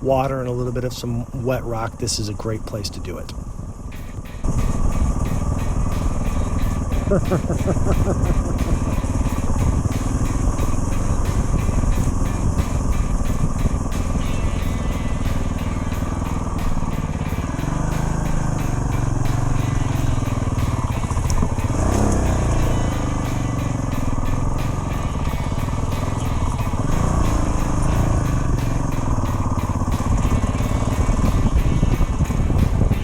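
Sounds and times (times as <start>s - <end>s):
motorcycle engine revving: 1.4s - 33.0s.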